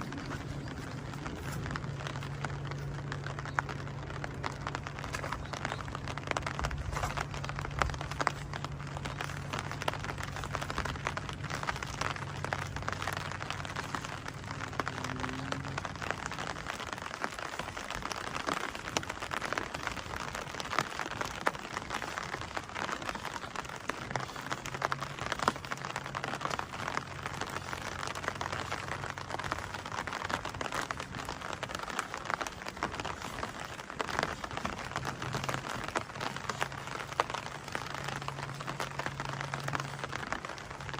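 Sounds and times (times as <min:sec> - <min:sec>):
low steady hum: 0:00.0 - 0:40.9
steady rain falling: 0:00.0 - 0:40.9.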